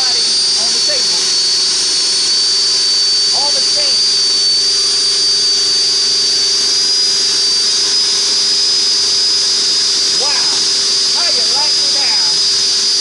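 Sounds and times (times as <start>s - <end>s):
electric fans whining: 0.0s - 13.0s.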